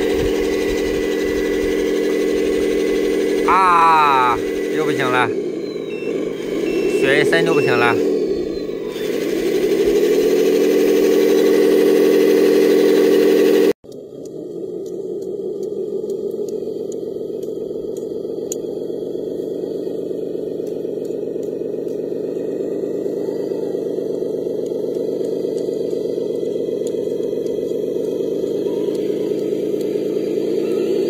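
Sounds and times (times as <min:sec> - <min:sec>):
toy truck motor and gears whining: 0:00.0 - 0:31.0.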